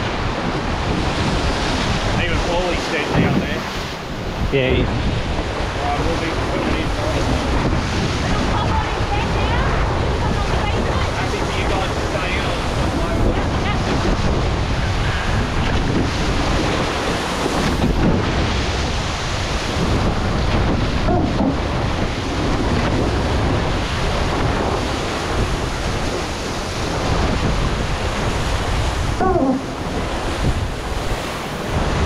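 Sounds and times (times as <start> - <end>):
water rushing along hulls: 0.0 - 32.0
wind buffeting the microphone: 0.0 - 32.0.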